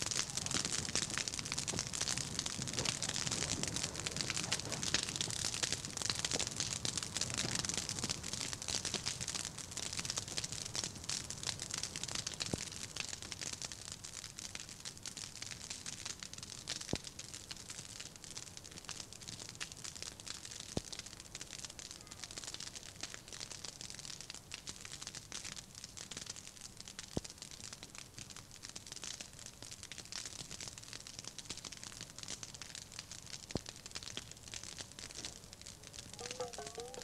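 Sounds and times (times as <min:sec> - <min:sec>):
open fire crackling and popping: 0:00.0 - 0:37.0.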